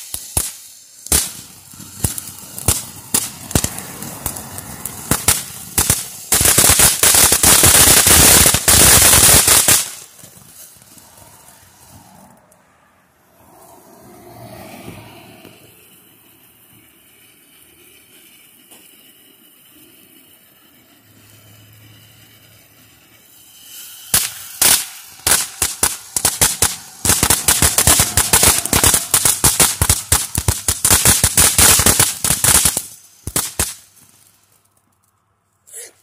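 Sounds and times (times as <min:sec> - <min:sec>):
fountain firework hissing sparks: 0:00.0 - 0:12.4, 0:14.7 - 0:34.8
firework crackling pops: 0:00.0 - 0:12.6, 0:15.4 - 0:35.2.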